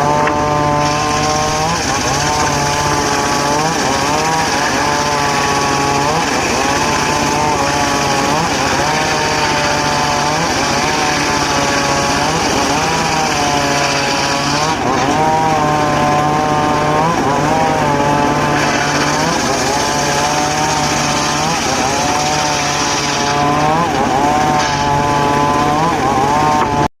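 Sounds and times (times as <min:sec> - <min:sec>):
circular saw cutting wood: 0:00.0 - 0:26.9.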